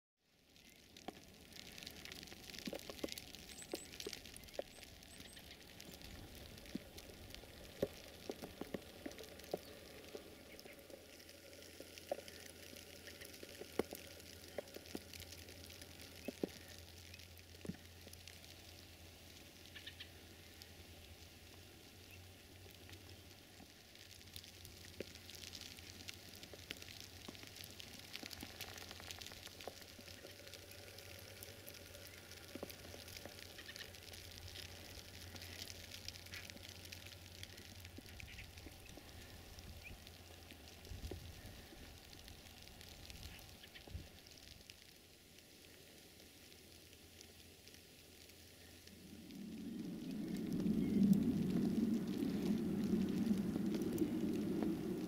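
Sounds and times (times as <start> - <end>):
light hiss: 0.5 - 55.0
wet snow pattering: 0.5 - 55.0.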